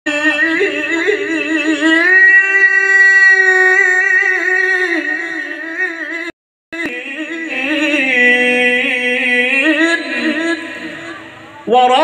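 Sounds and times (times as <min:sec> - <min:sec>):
man singing devotional melody: 0:00.1 - 0:12.0.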